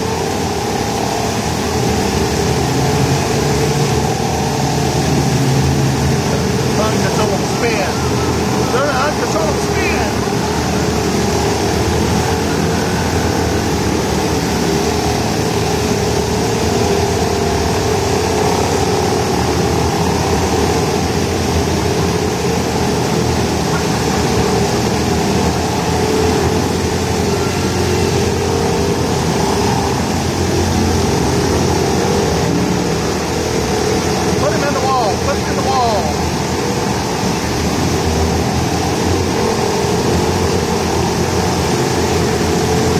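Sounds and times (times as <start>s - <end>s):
small boat motors running: 0.0s - 42.9s
water churning: 0.0s - 42.9s.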